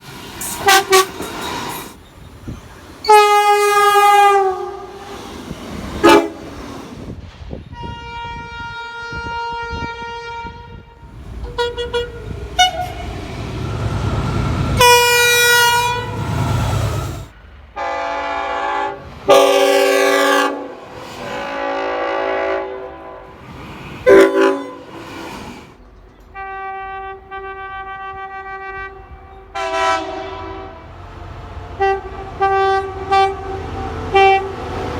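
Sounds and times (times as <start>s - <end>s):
passing train rumble: 0.0s - 34.9s
train horns: 0.4s - 1.9s, 3.0s - 7.1s, 7.7s - 23.4s, 24.0s - 25.7s, 26.3s - 34.9s.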